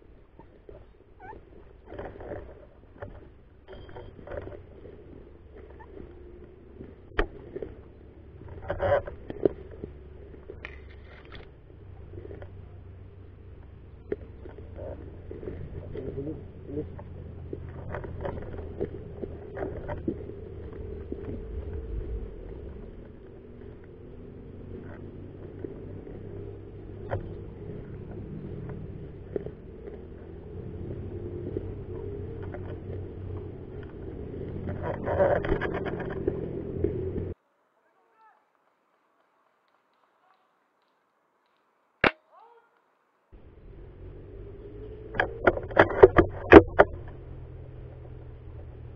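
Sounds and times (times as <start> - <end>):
rustling and crackling: 0.0 - 48.9
camera handling rumble: 0.3 - 37.4, 44.7 - 48.9.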